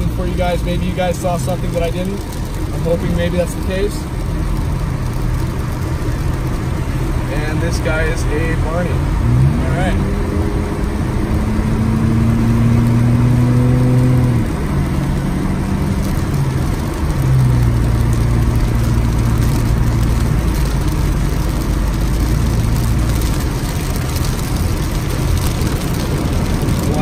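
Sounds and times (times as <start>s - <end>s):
car engine humming: 0.0s - 27.0s
heavy rain on a moving car: 0.0s - 27.0s.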